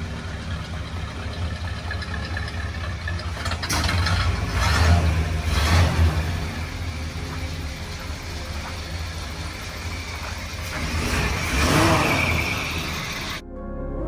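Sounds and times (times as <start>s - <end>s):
truck engine idling: 0.0s - 13.4s.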